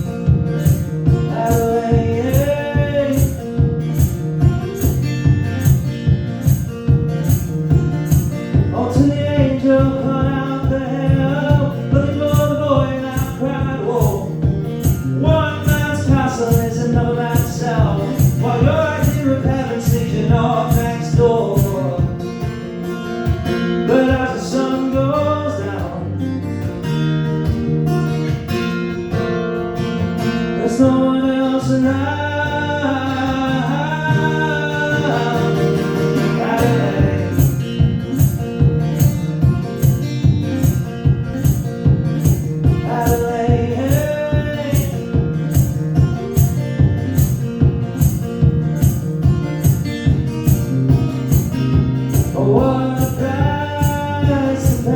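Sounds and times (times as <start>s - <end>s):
man singing: 0.0s - 5.8s, 7.2s - 22.6s, 23.5s - 26.3s, 30.3s - 47.3s, 51.2s - 54.9s
acoustic guitar: 0.0s - 54.9s
strummed guitar rhythm: 0.0s - 54.9s.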